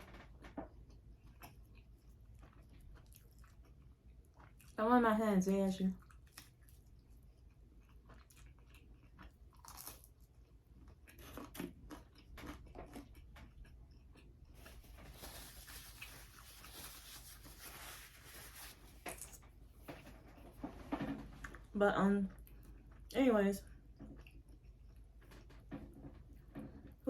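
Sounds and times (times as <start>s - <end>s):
chewing pizza: 0.1s - 4.8s, 6.0s - 18.0s, 21.4s - 27.0s.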